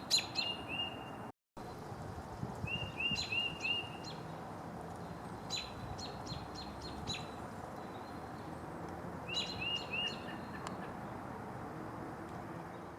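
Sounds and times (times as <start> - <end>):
outdoor background hiss: 0.0 - 12.9
songbird singing: 0.0 - 12.9.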